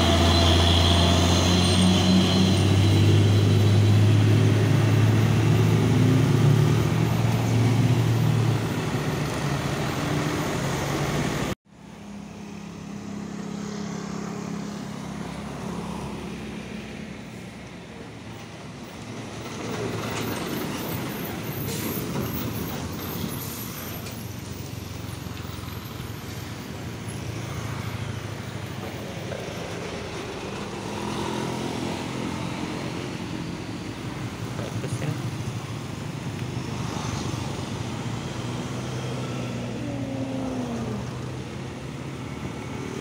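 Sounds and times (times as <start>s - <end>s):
diesel trucks passing: 0.0s - 43.0s
traffic noise: 0.0s - 43.0s.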